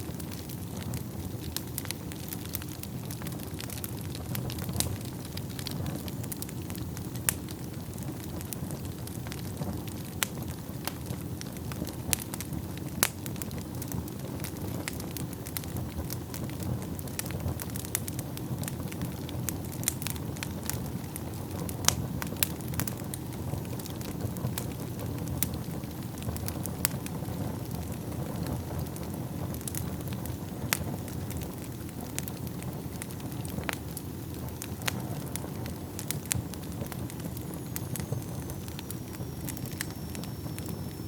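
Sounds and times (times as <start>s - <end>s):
fire crackles and pops: 0.0s - 41.0s
low rumble of flames: 0.0s - 41.0s.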